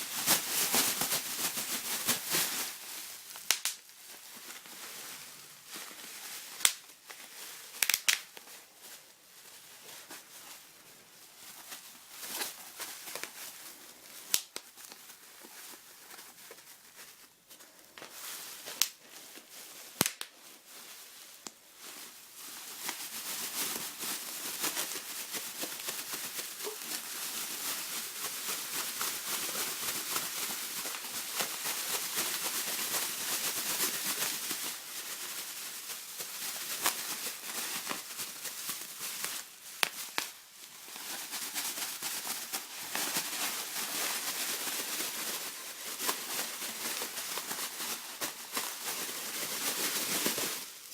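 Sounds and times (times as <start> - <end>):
bubble wrap crinkling: 0.0 - 50.9
bubble wrap popping: 0.0 - 50.9.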